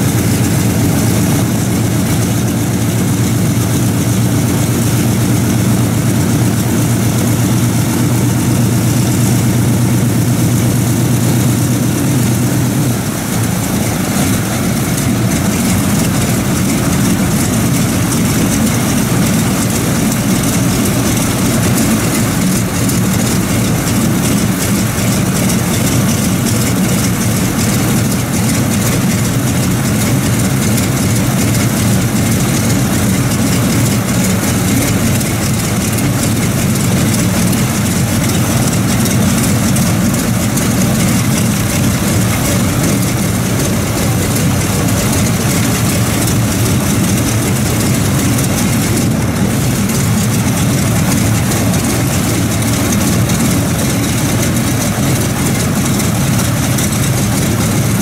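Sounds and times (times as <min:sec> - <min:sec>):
radial aircraft engine idling: 0:00.0 - 0:58.0.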